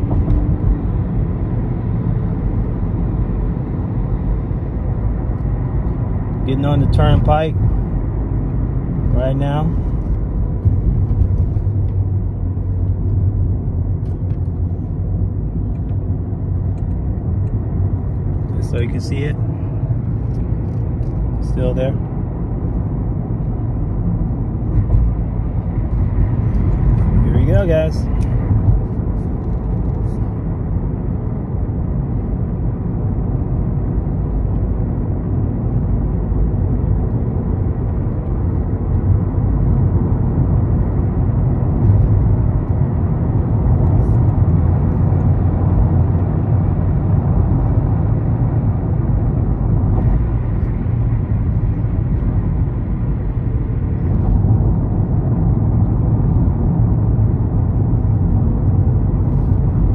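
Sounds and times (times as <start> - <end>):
car interior road and engine rumble: 0.0 - 59.9.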